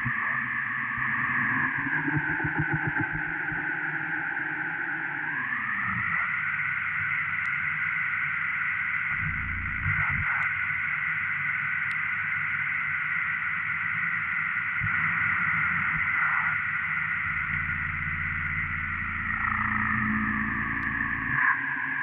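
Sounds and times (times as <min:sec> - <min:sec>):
electronic static drone: 0:00.0 - 0:22.0.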